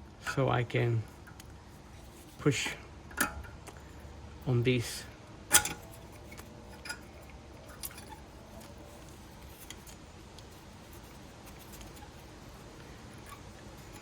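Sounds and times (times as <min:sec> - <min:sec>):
faint metallic clicks and scrapes: 0:01.0 - 0:04.5, 0:05.5 - 0:14.0.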